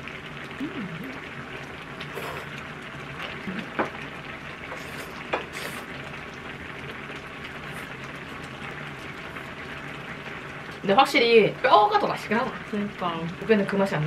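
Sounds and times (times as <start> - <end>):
soup bubbling in a pot: 0.0 - 14.0.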